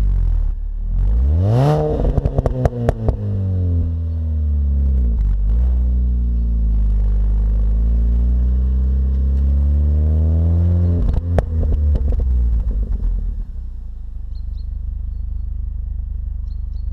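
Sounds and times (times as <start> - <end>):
car engine revving: 0.0 - 16.8
engine crackles: 0.0 - 16.9.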